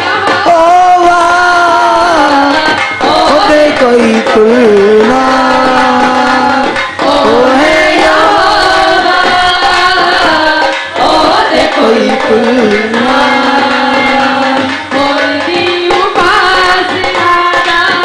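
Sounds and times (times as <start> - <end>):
hand-drum rhythm: 0.0 - 18.0
voices singing held notes: 0.0 - 18.0.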